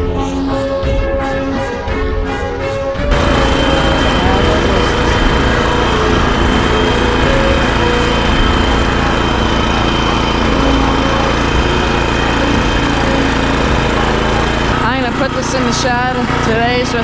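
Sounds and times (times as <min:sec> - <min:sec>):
small petrol engine running: 0:03.1 - 0:17.0.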